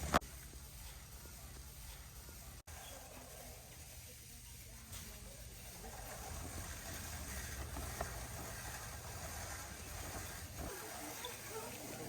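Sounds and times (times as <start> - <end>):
shopping cart rolling: 0.0 - 3.9, 4.9 - 12.0
faint store background noise: 0.0 - 12.0.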